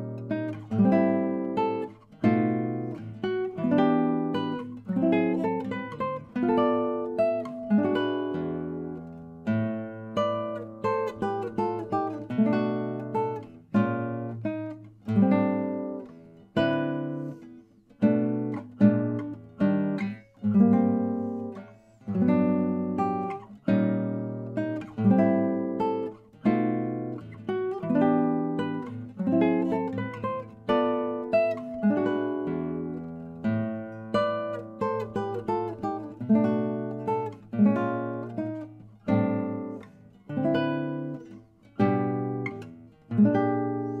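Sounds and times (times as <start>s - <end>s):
classical guitar fingerpicking: 0.0s - 44.0s.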